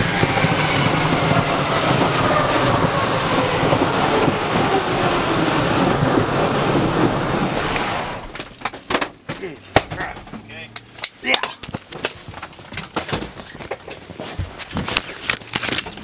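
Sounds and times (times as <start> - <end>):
aircraft cabin noise: 0.0 - 16.0.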